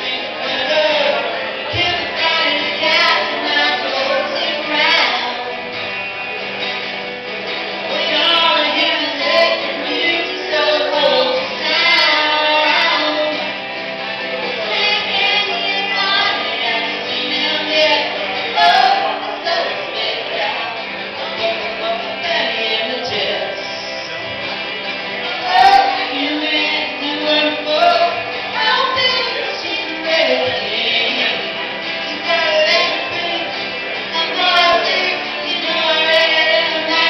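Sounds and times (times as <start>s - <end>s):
woman singing: 0.0s - 5.6s, 7.9s - 13.5s, 14.5s - 24.1s, 25.2s - 37.0s
acoustic guitar: 0.0s - 37.0s.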